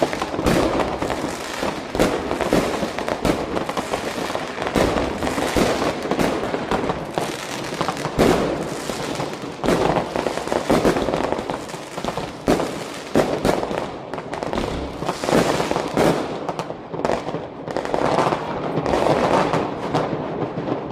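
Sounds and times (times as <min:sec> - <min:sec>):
firecrackers crackling: 0:00.0 - 0:20.9
firework bangs: 0:00.0 - 0:20.9.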